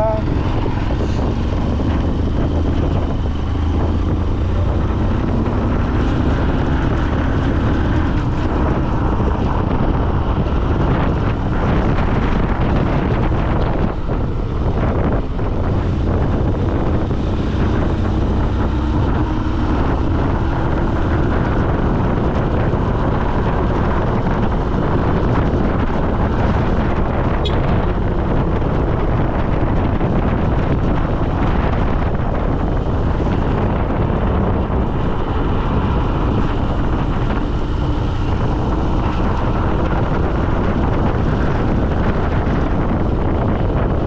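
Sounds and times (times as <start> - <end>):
low road rumble: 0.0 - 44.0
wind on microphone: 0.0 - 44.0.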